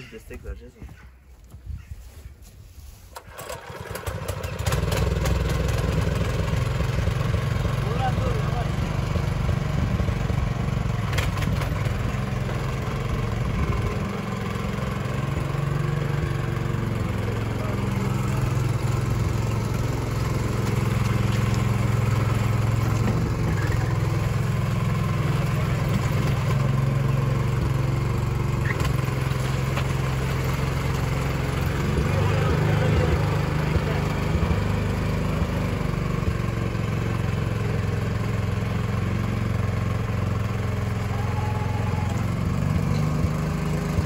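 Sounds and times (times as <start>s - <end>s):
walking tractor engine under load: 2.4s - 44.0s.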